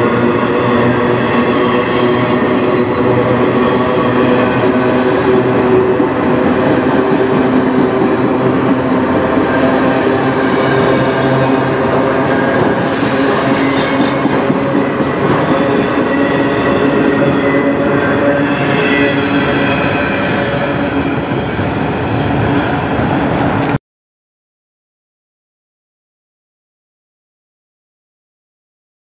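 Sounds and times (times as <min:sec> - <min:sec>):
train wheels rumbling on rails: 0:00.0 - 0:23.8.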